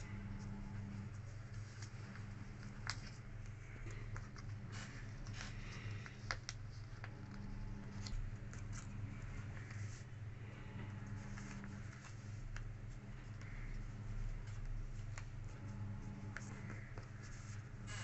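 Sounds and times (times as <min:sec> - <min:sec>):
paper folding rustles and crackles: 0:00.0 - 0:18.0
steady low hum: 0:00.0 - 0:18.0.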